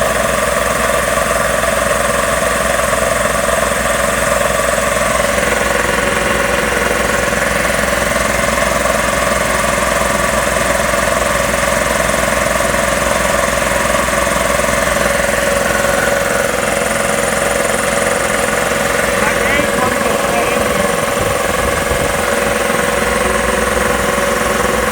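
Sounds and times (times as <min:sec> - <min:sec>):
air compressor pump chugging: 0:00.0 - 0:24.9.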